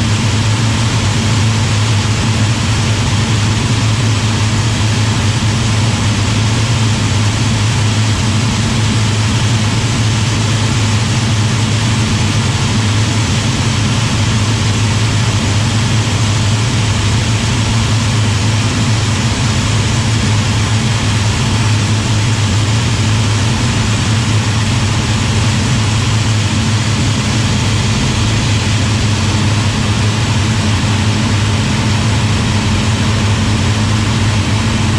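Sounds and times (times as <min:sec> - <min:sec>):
aircraft engine and propeller drone: 0:00.0 - 0:34.9.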